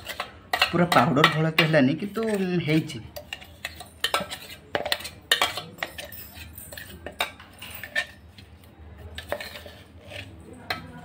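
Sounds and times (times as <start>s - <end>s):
metal spoon scraping steel jar: 0.0s - 11.0s.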